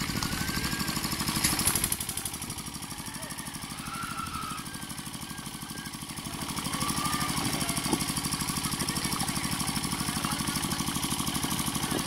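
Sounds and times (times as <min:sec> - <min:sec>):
small engine knocking: 0:00.0 - 0:12.0.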